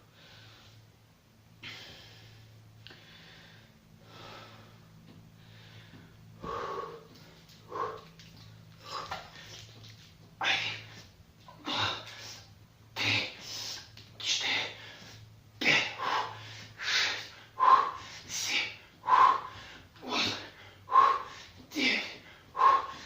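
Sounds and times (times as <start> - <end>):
heavy forceful breathing: 1.6 - 9.7, 10.4 - 23.0.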